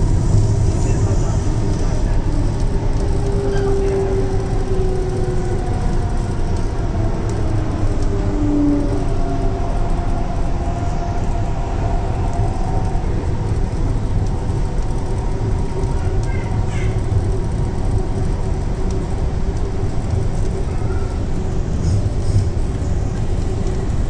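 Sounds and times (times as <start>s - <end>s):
faint whining tones: 0.0s - 24.0s
oncoming train passing: 0.0s - 24.0s
train rumbling from inside carriage: 0.0s - 24.0s.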